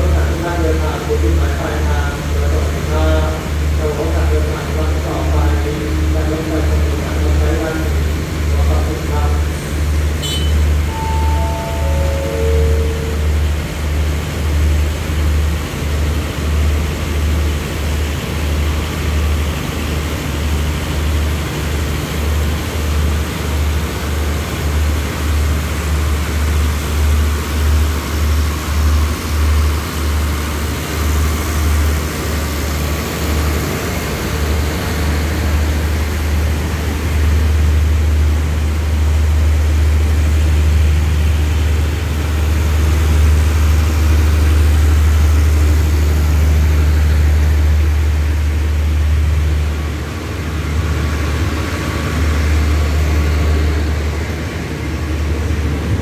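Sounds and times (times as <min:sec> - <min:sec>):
train coaches rolling past: 0:00.0 - 0:56.0.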